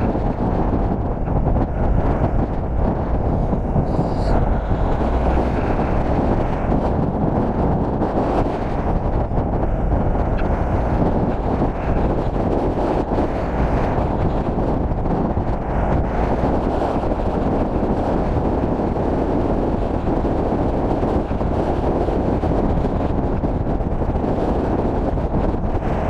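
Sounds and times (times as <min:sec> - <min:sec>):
longboard wheels rolling on tarmac: 0:00.0 - 0:26.0
wind buffeting microphone: 0:00.0 - 0:26.0.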